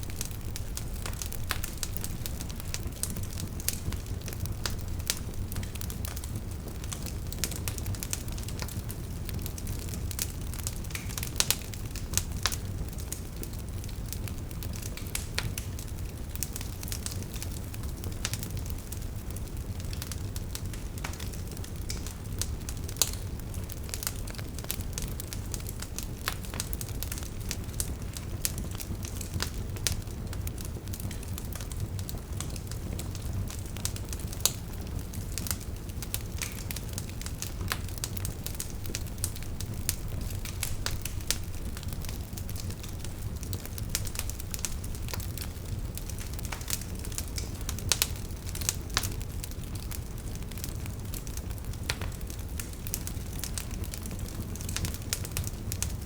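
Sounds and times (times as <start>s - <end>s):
logs crackling and popping: 0.0s - 56.0s
wood fire rumbling: 0.0s - 56.0s.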